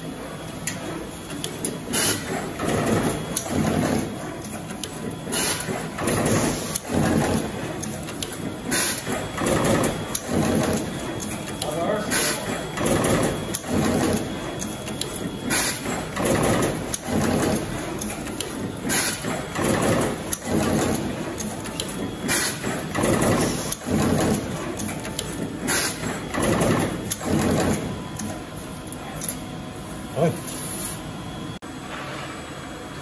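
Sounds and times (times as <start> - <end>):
machine clatter of strokes: 0.4 - 29.4.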